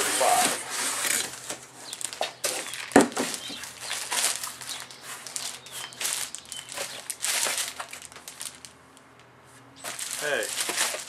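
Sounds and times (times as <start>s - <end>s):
plastic wrap crinkling: 0.2s - 8.8s, 9.8s - 11.0s.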